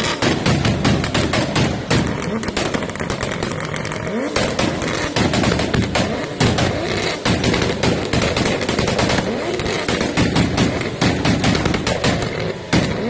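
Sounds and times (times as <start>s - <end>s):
engine revving in blips: 0.0s - 13.0s
exhaust pops and crackles: 0.0s - 13.0s.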